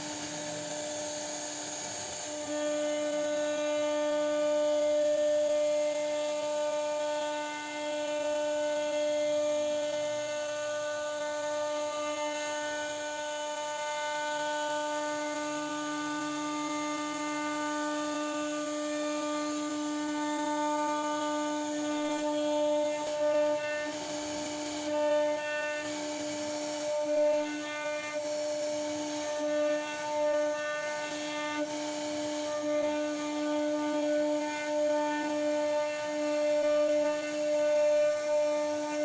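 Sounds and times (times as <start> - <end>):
router spindle whine carving wood: 0.0 - 39.0.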